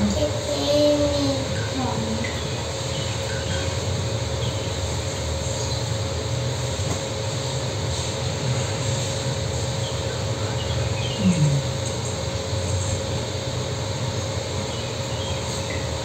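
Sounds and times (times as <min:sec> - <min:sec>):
mid-pitched hum: 0:00.0 - 0:16.0.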